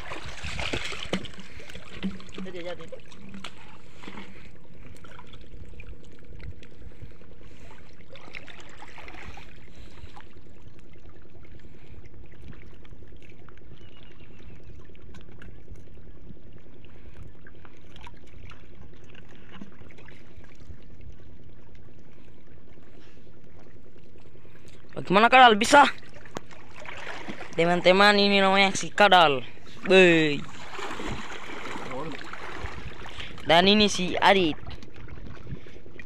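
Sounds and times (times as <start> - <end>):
seawater trickling and splashing: 0.0 - 36.0
steady low hum: 0.0 - 36.0.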